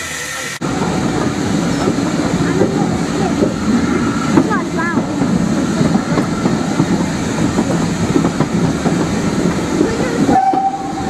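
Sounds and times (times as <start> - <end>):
train wheels rumbling on rails: 0.0 - 11.0
wheels clicking over rail joints: 0.3 - 11.0.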